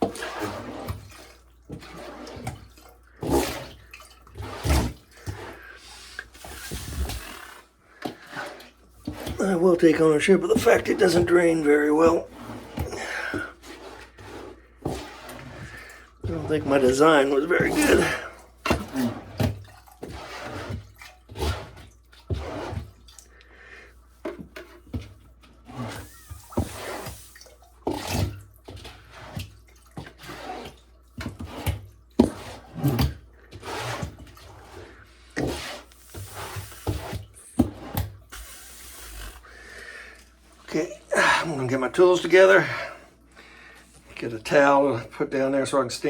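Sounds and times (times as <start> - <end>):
knocks clunks and scrapes: 0.0 - 23.1, 24.2 - 39.4
water sloshing: 0.0 - 44.7.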